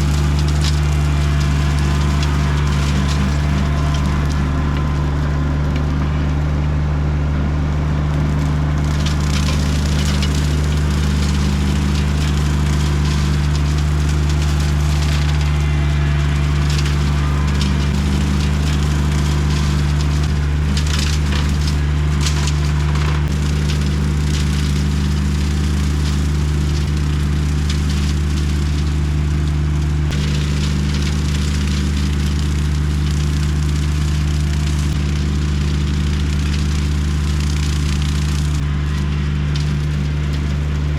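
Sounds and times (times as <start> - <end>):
woody stems crackling and splintering: 0.0 - 7.0, 8.1 - 40.9
diesel tractor running: 0.0 - 40.9.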